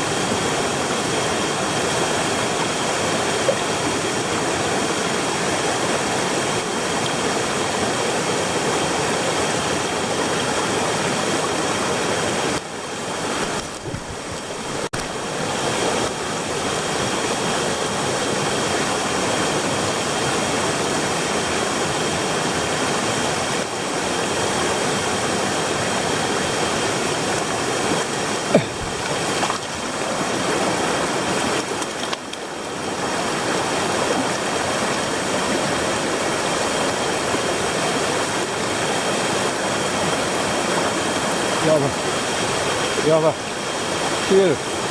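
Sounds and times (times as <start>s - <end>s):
stream rushing: 0.0s - 44.9s.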